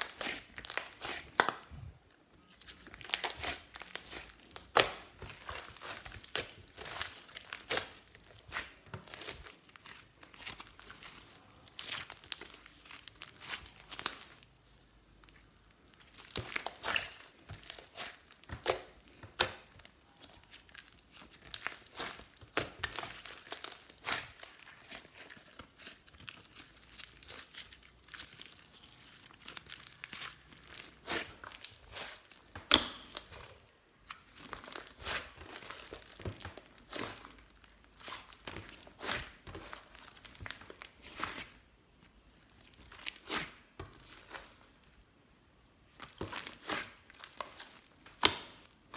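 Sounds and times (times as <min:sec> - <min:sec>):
slime popping and crackling: 0:00.0 - 0:01.8, 0:02.6 - 0:14.5, 0:15.4 - 0:33.5, 0:34.1 - 0:41.5.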